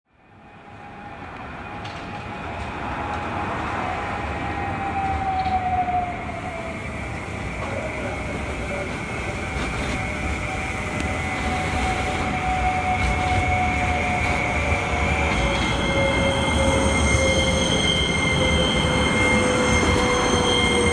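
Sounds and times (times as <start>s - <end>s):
tram rumbling on rails: 0.2s - 20.9s.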